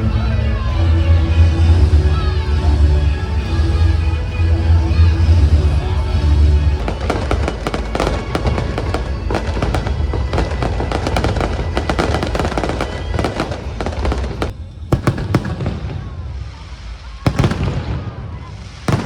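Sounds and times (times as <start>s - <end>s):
show music: 0.0s - 15.3s
fireworks crackling and banging: 0.0s - 19.0s.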